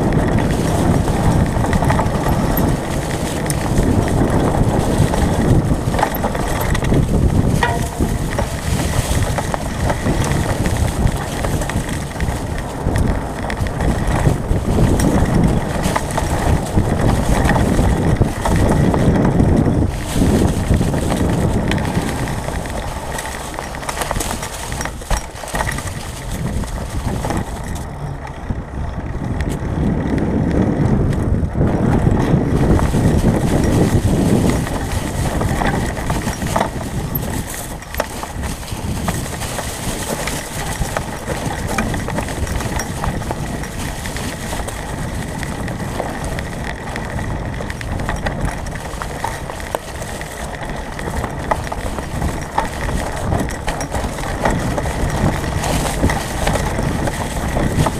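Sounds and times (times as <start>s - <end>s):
bike rattling: 0.0s - 57.9s
bike tyres over dry leaves: 0.0s - 57.9s
wind rumble on microphone: 0.0s - 57.9s.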